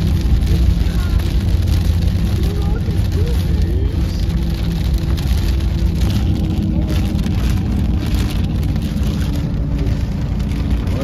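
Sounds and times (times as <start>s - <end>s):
engine and tyres droning on wet road: 0.0s - 11.0s
rain on windshield and bodywork: 0.0s - 11.0s.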